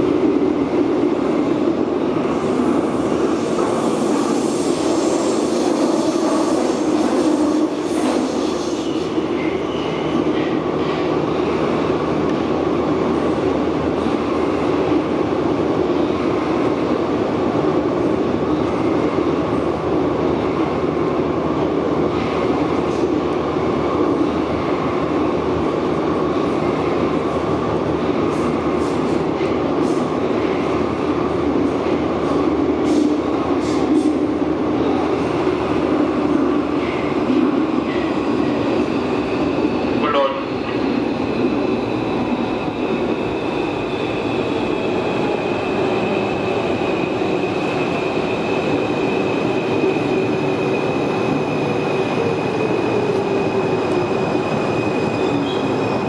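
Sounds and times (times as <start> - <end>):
train wheels rolling on rail: 0.0 - 56.0.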